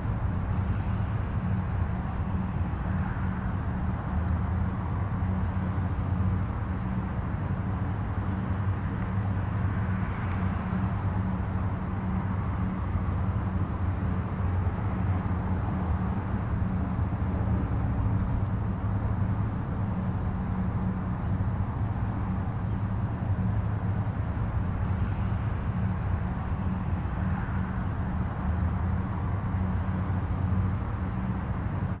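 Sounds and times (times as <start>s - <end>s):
distant highway traffic rumble: 0.0s - 32.0s.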